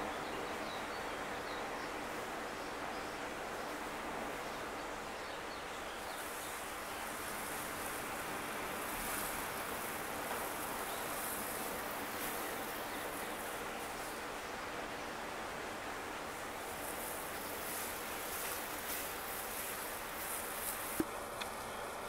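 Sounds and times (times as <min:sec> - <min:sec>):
high hiss: 0:00.0 - 0:22.0
sea noise: 0:00.0 - 0:22.0
wind: 0:00.0 - 0:22.0.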